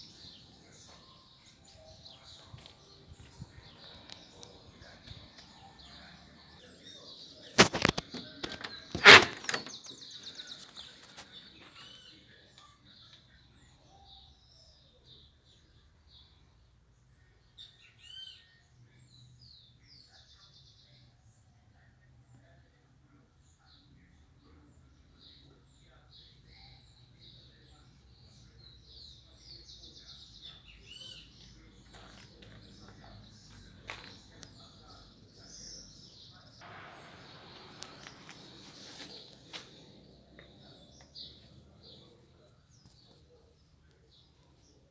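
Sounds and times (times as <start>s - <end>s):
birds chirping: 0.0s - 15.7s, 24.5s - 44.9s.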